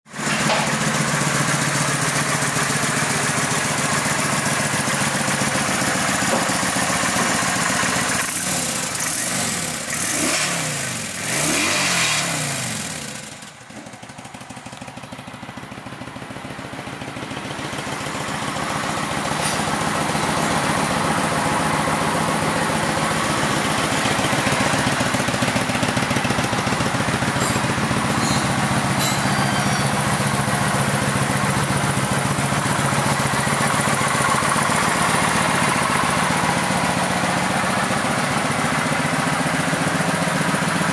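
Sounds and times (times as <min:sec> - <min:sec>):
motorcycle engine idling: 0:00.1 - 0:10.1, 0:12.3 - 0:40.9.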